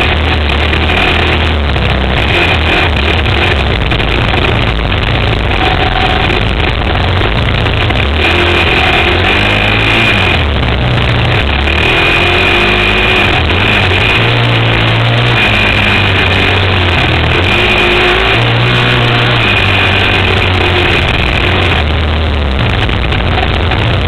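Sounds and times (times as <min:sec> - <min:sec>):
quad engine revving hard: 0:00.0 - 0:24.0
steady rush of noise: 0:00.0 - 0:24.0.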